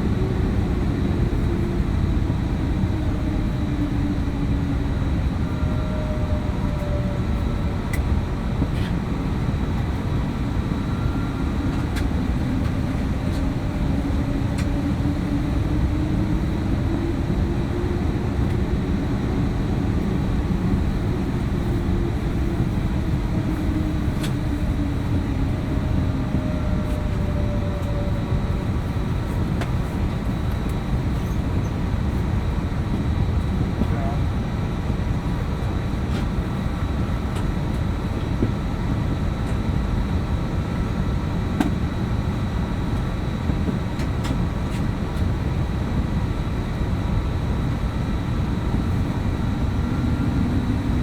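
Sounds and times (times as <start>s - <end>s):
faint engine tones: 0.0s - 51.0s
jet cabin roar: 0.0s - 51.0s.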